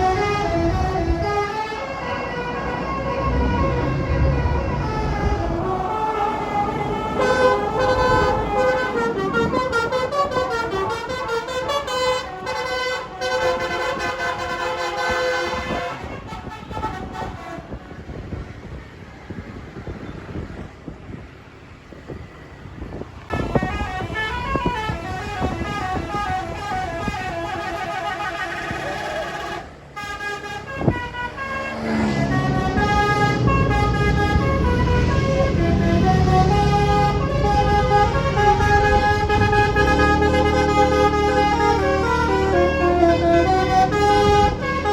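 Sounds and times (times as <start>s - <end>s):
bus air horn playing tune: 0.0s - 18.1s, 23.3s - 44.9s.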